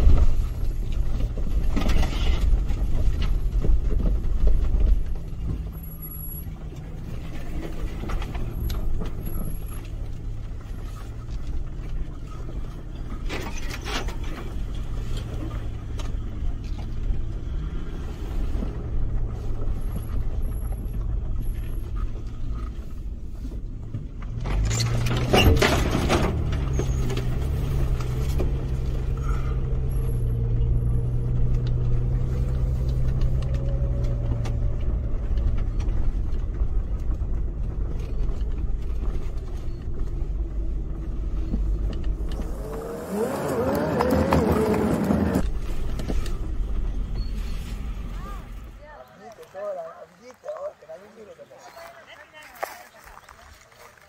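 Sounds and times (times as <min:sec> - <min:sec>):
truck engine running: 0:00.0 - 0:49.8
tyres and suspension rumbling: 0:00.0 - 0:54.0.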